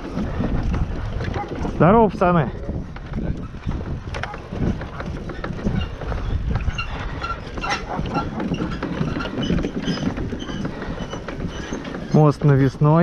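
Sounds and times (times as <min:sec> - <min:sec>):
footbridge creaking and knocking: 0:00.0 - 0:13.0.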